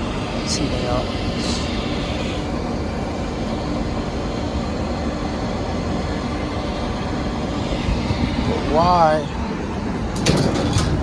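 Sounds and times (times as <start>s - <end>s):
hvac equipment humming: 0.0s - 11.0s.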